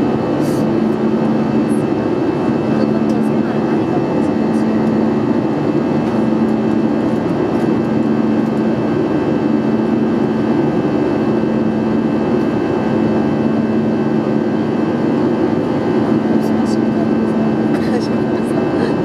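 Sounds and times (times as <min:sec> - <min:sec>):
jet engine drone in cabin: 0:00.0 - 0:19.0.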